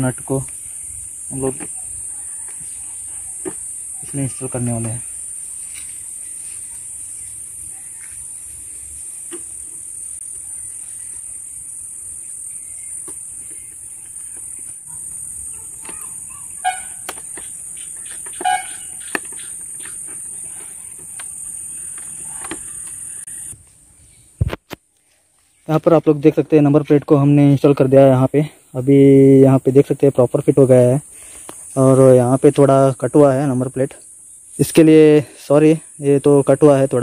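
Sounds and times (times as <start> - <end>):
crickets chirring: 0.0 - 24.6, 25.4 - 37.0.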